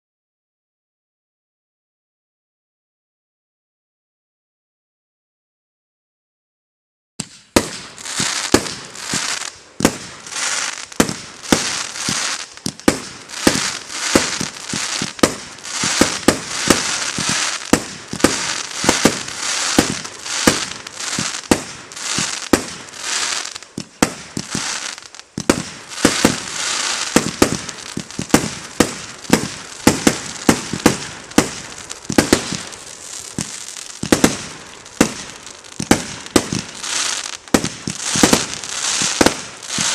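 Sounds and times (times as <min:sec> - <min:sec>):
fireworks bangs: 0:07.2 - 0:39.9
fireworks crackling: 0:07.2 - 0:39.9.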